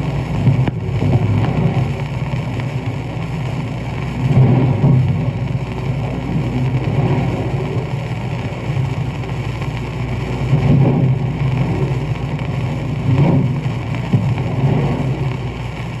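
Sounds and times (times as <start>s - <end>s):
record surface noise: 0.0s - 16.0s
waves breaking on a shore: 0.0s - 16.0s.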